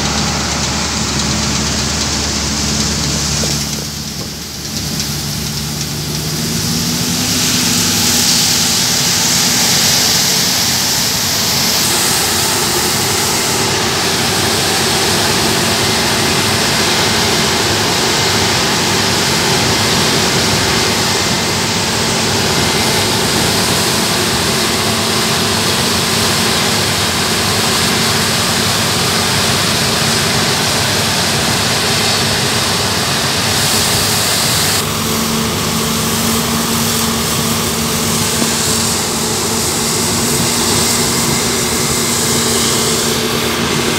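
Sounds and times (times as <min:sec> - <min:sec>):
engine drone: 0:00.0 - 0:43.9
grain hissing through auger: 0:00.0 - 0:43.9.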